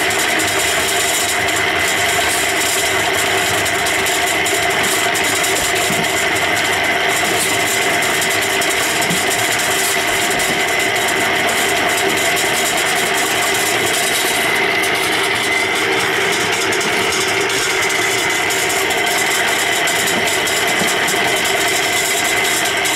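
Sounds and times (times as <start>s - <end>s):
concrete mixer humming: 0.0s - 22.9s.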